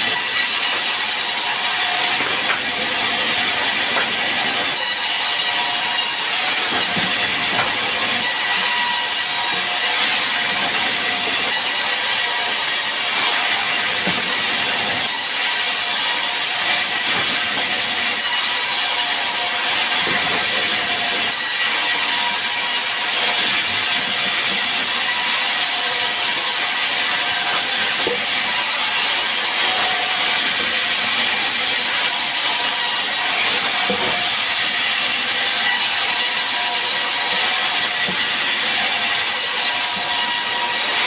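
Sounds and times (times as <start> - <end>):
saw cutting wood: 0.0 - 41.0.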